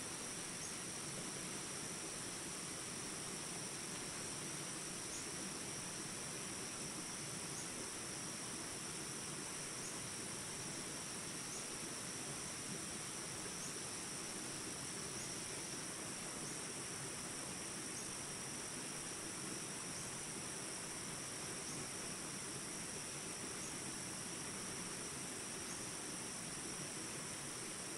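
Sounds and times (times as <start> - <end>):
high insect trill: 0.0 - 27.9.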